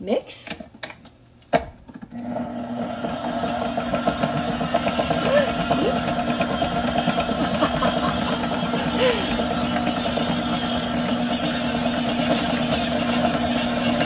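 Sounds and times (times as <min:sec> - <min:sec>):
stand mixer motor humming: 0:02.2 - 0:14.0.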